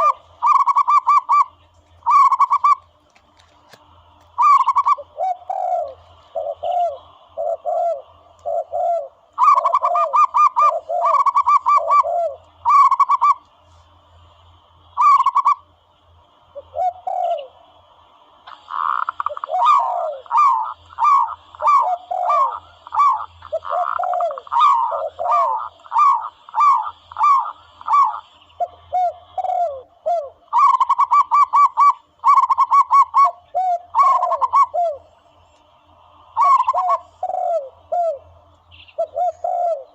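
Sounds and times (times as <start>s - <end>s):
recorded dove cooing: 0.0s - 2.9s, 4.3s - 13.4s, 14.8s - 15.7s, 16.5s - 17.9s, 18.5s - 35.2s, 36.1s - 39.9s.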